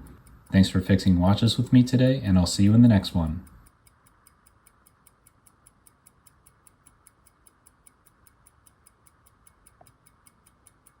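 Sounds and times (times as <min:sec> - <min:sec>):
pocket watch ticking: 0:00.0 - 0:11.0.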